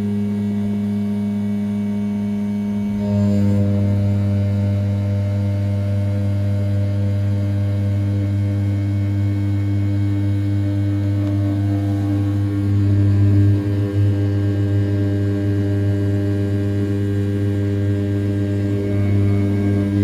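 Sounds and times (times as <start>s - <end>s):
milling machine hum: 0.0s - 20.0s.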